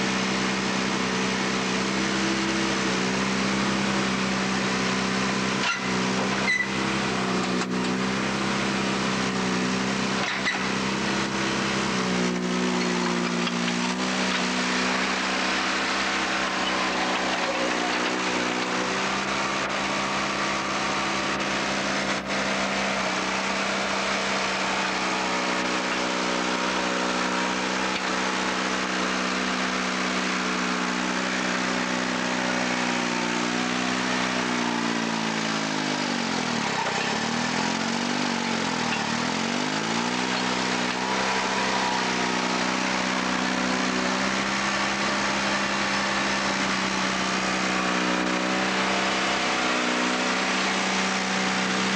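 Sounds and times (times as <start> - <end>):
diesel engine lugging under load: 0.0 - 51.9.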